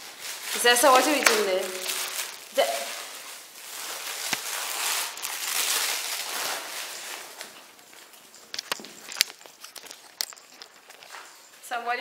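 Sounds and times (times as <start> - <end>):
close rustling and crinkling: 0.0 - 11.8.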